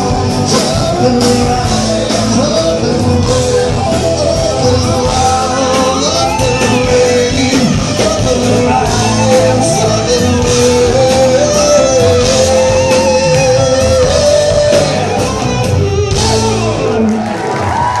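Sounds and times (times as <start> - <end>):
sustained melody line: 0.0 - 17.6
live rock band playing: 0.0 - 18.0
vocals: 0.0 - 18.0.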